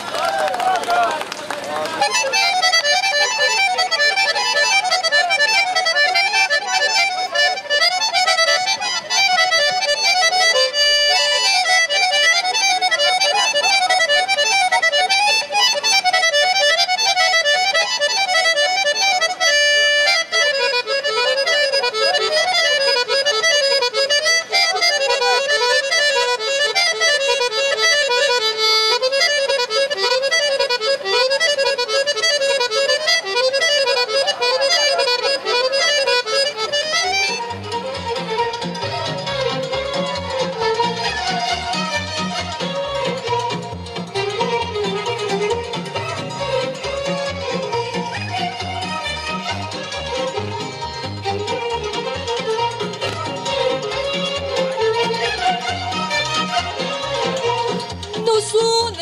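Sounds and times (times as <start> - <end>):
fast instrumental folk dance tune: 0.0 - 59.0.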